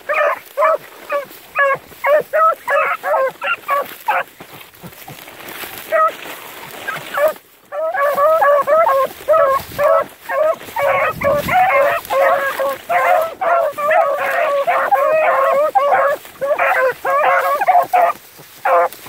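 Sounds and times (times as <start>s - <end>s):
dogs yelping: 0.0s - 4.3s, 5.9s - 6.2s, 6.9s - 19.0s.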